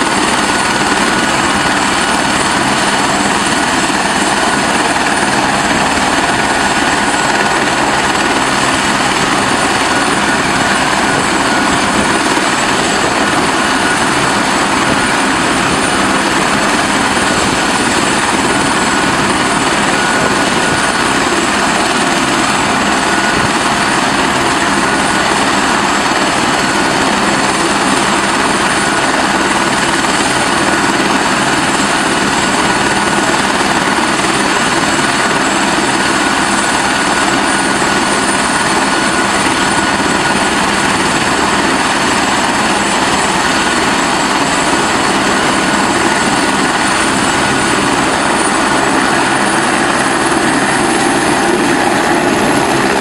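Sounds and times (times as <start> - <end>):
helicopter rotor rush: 0.0 - 53.0
high turbine whine: 0.0 - 53.0.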